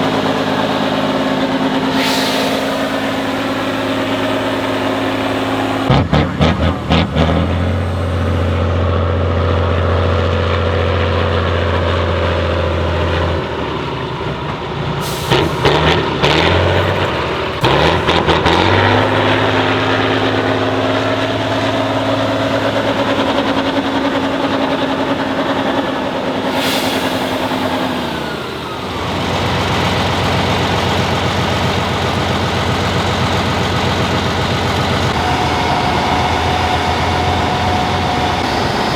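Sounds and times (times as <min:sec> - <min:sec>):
truck diesel engine revving: 0:00.0 - 0:38.9.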